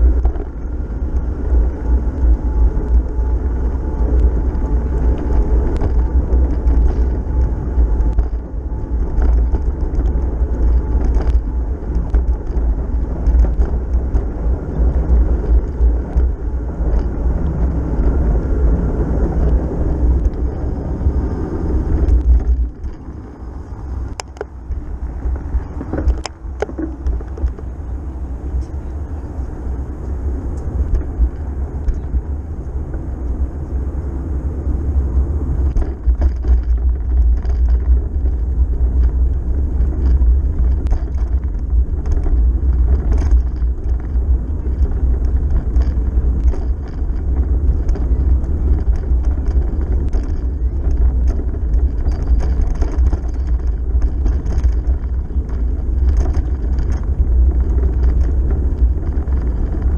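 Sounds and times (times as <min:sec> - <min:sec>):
small clicks and rattles: 0:00.0 - 0:33.8, 0:34.8 - 0:59.9
wind and road rumble: 0:00.0 - 0:59.9.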